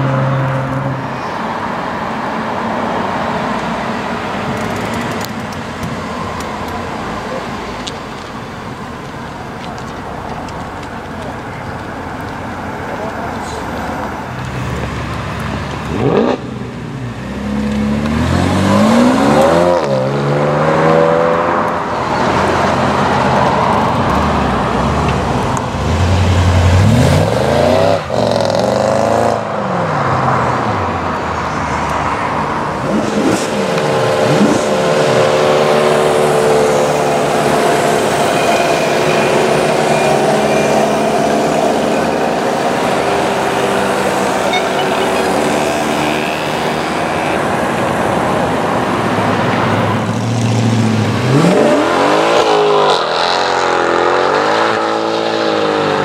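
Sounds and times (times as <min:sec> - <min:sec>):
sports car engines revving: 0:00.0 - 0:56.0.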